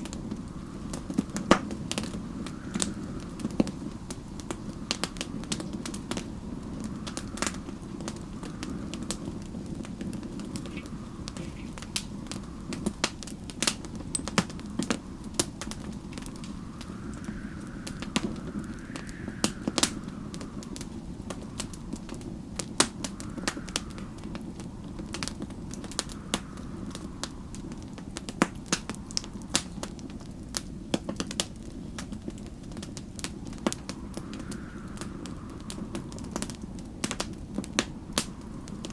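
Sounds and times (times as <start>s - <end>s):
snowstorm wind: 0.0s - 38.9s
wood fire crackling and popping: 0.0s - 38.9s.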